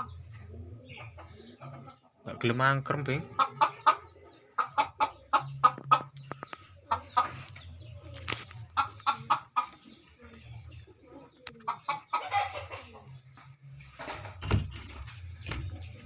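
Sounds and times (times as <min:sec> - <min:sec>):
hen clucking: 0:00.0 - 0:16.0
pigeons cooing: 0:00.0 - 0:16.0.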